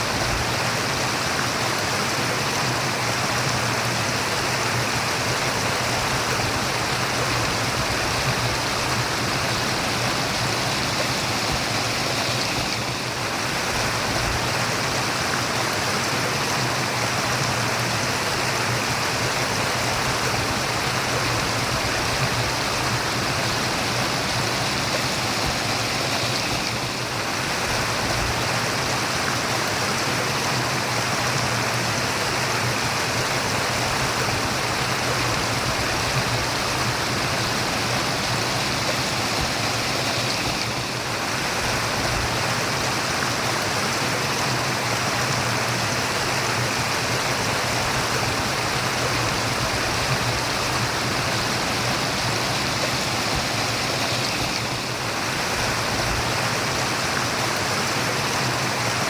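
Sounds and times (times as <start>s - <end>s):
brook water babbling: 0.0s - 59.0s.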